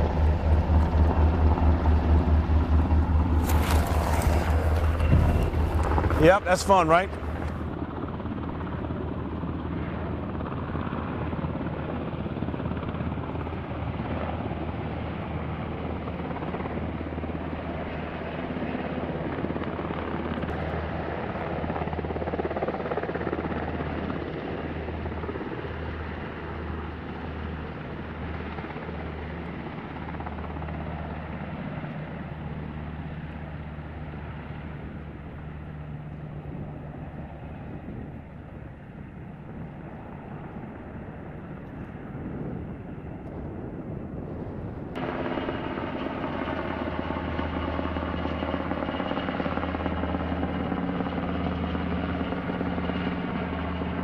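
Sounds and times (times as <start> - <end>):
helicopter rotor thrum: 0.0 - 54.0.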